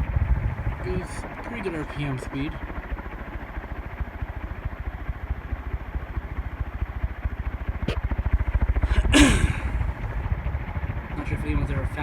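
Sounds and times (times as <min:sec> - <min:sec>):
ceiling fan low throbbing: 0:00.0 - 0:04.4, 0:05.0 - 0:11.9.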